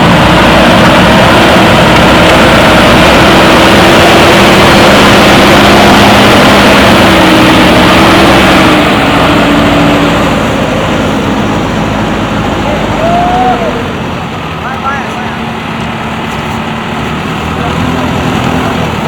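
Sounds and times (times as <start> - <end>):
loud steady motor noise: 0.0 - 19.0.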